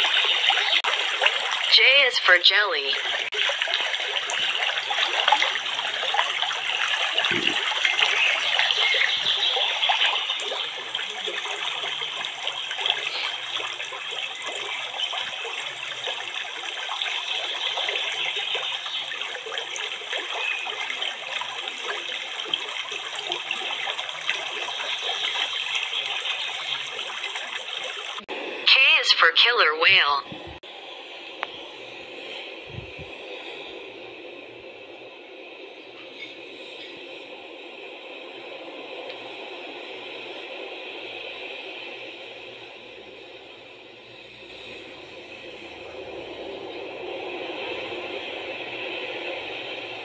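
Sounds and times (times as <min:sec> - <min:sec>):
rushing trickling water: 0:00.0 - 0:28.4, 0:36.0 - 0:50.0.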